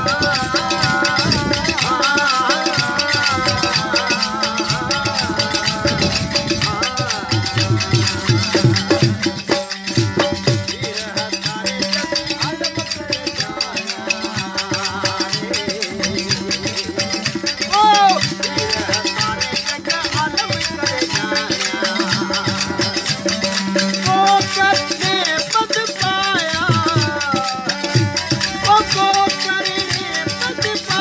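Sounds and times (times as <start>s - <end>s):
fast hand percussion: 0.0s - 31.0s.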